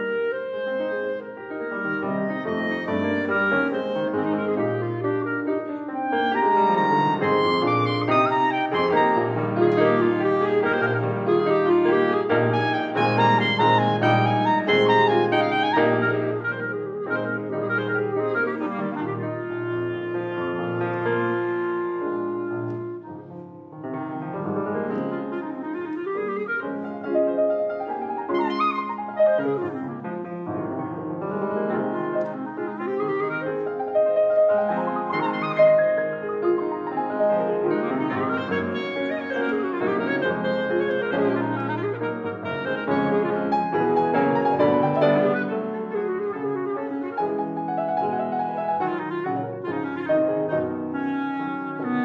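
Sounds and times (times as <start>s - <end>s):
clarinet: 0.0s - 52.0s
grand piano: 0.0s - 52.0s.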